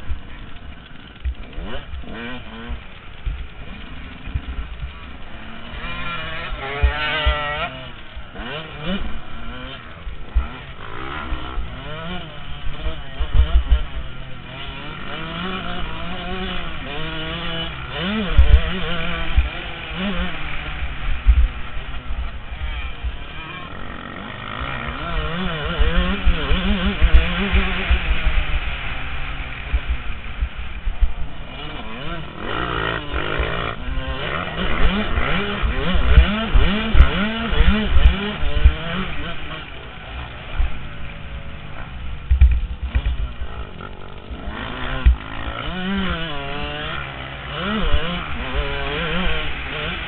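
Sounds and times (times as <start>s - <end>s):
two-stroke motorcycle engine revving: 0.0s - 50.0s.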